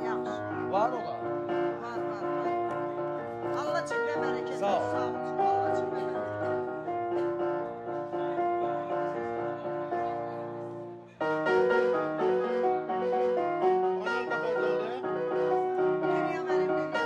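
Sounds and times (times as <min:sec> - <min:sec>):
electronic keyboard melody: 0:00.0 - 0:17.0.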